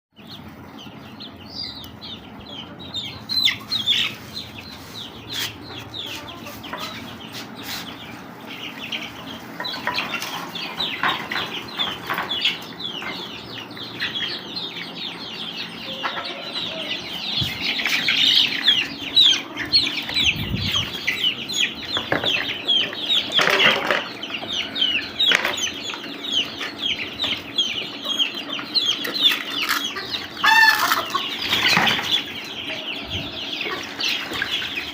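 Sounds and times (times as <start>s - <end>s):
chicks peeping: 0.2s - 34.9s
hens clucking: 0.2s - 34.9s.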